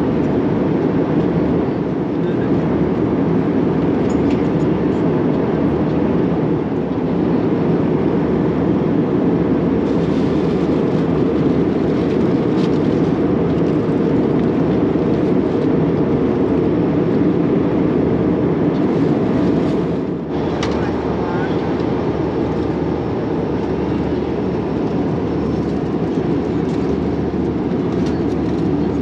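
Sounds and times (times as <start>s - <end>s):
airplane cabin noise: 0.0s - 29.0s.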